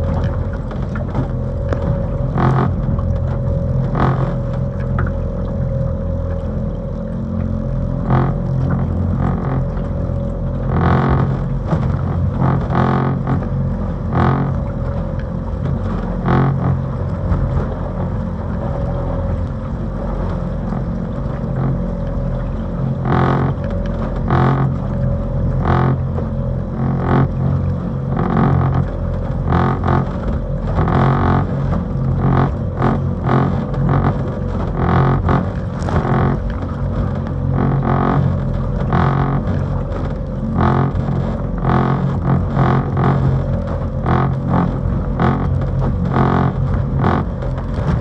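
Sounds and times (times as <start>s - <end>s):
low drone: 0.0s - 48.0s
wind rumbling on microphone: 0.0s - 48.0s.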